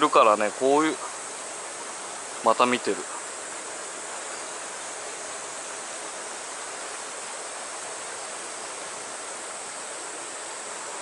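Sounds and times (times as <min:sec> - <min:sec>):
cicadas singing: 0:00.0 - 0:11.0.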